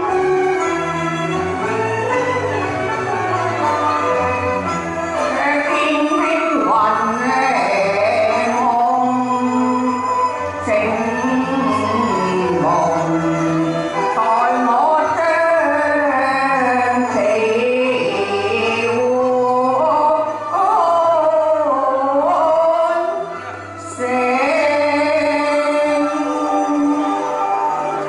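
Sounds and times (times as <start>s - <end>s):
musical accompaniment: 0.0s - 28.0s
woman singing opera through loudspeakers: 3.4s - 28.0s.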